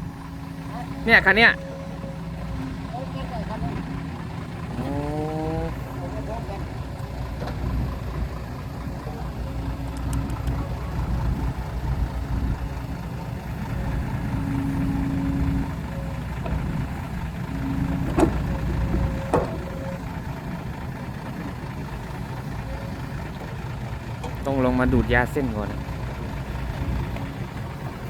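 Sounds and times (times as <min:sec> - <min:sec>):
diesel truck engine running: 0:00.0 - 0:28.0.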